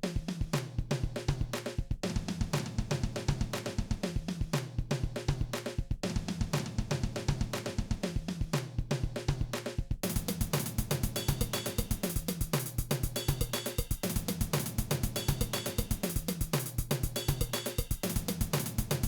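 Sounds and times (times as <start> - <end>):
drum kit playing a quick beat: 0.0 - 19.0.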